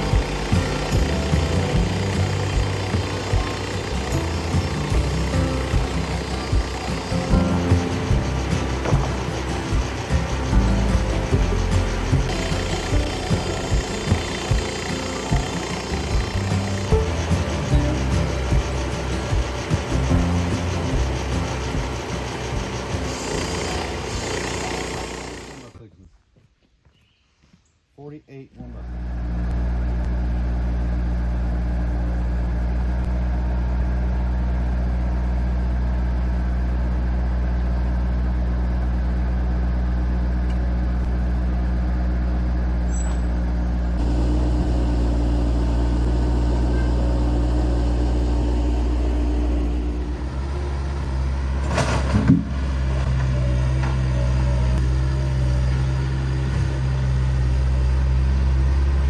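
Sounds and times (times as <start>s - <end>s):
engine running: 0.0s - 25.8s, 28.6s - 59.0s.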